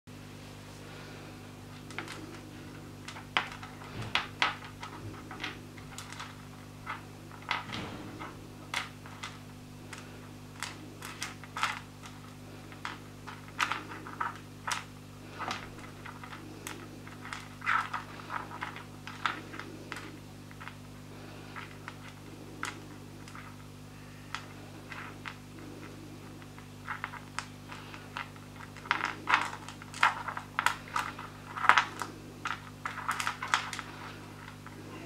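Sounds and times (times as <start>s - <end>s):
steady low hum: 0.1s - 35.0s
stones clicking and tapping: 1.7s - 23.7s, 24.3s - 34.9s.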